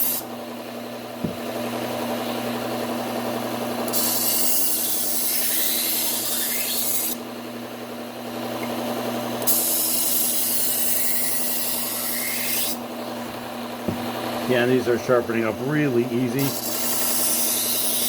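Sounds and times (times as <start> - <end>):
knife grinding on belt sander: 0.0 - 0.3, 1.2 - 7.3, 8.6 - 18.0.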